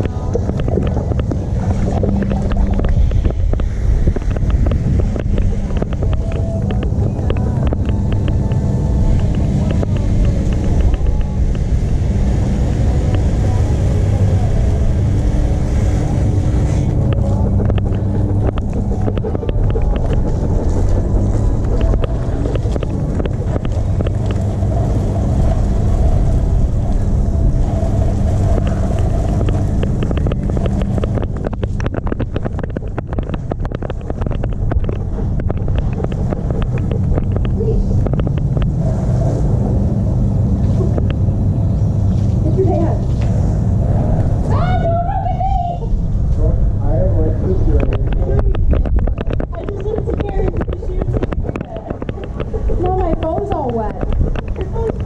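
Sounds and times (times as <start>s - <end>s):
motor rumbling: 0.0s - 55.0s
wind buffeting microphone: 0.0s - 55.0s.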